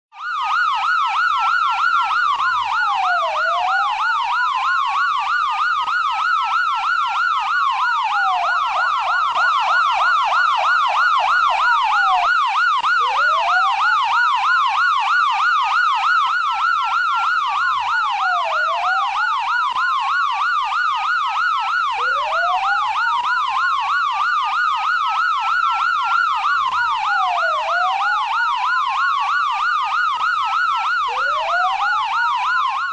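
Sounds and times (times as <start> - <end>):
police siren: 0.1 - 32.9.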